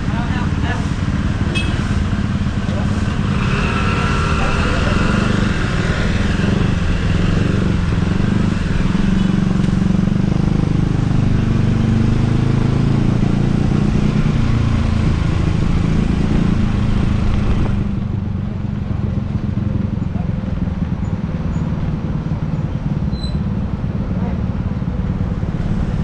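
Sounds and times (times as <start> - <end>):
scooter engine droning: 0.0 - 26.0.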